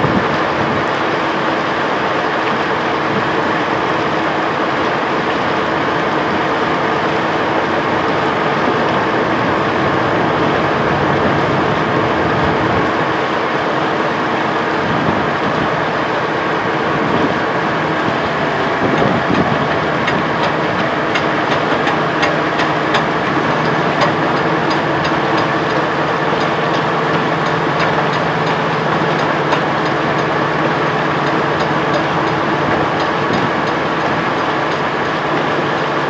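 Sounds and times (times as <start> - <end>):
ferry engine running: 0.0 - 36.0.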